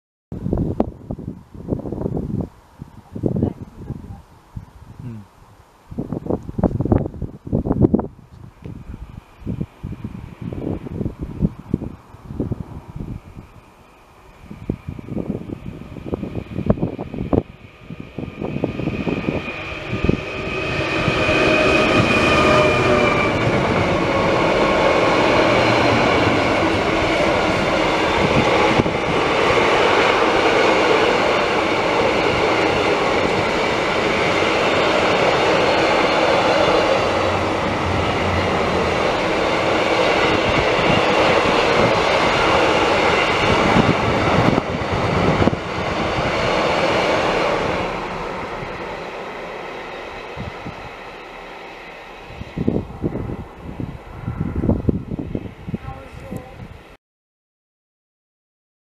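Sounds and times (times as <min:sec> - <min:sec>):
diesel locomotive engine drone: 0:00.4 - 0:57.0.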